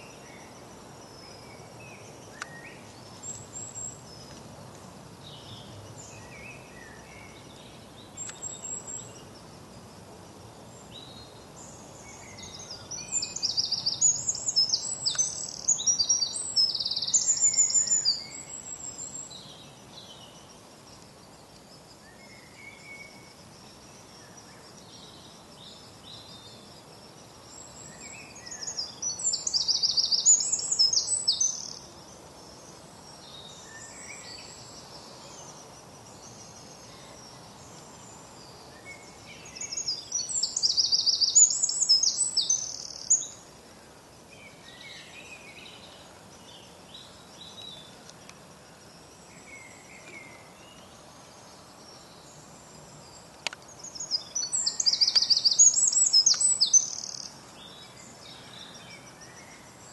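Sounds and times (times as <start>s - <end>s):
outdoor background noise: 0.0s - 59.9s
songbird singing: 0.0s - 59.9s.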